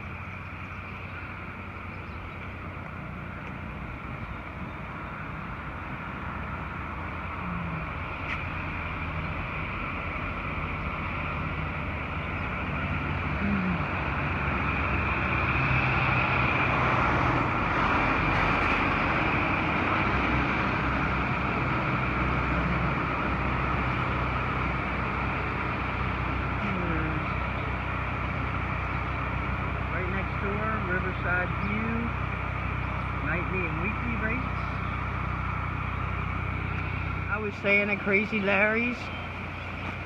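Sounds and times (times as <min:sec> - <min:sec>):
vehicle and road noise: 0:00.0 - 0:40.0.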